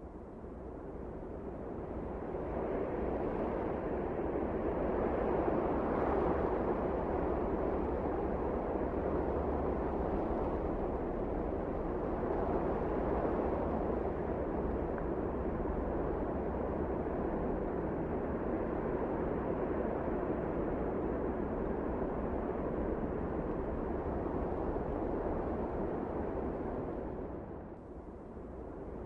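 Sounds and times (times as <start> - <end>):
blizzard wind blowing: 0.0 - 29.0.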